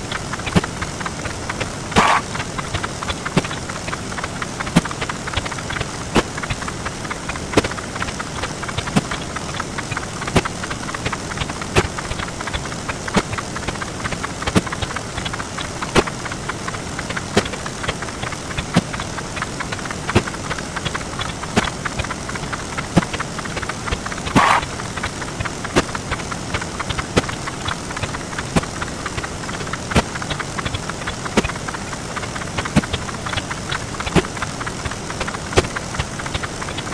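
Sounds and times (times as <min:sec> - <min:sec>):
rapid clicks rattle: 0:00.0 - 0:36.9.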